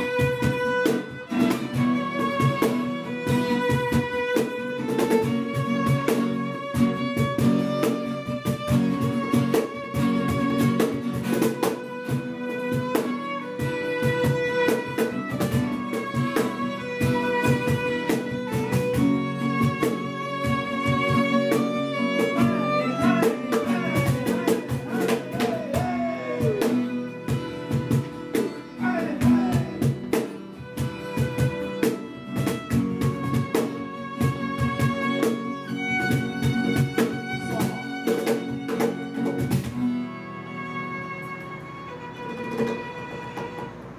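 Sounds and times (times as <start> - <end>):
cajon beats: 0.0 - 43.9
strummed acoustic guitar: 0.0 - 43.9
violin: 0.0 - 43.9.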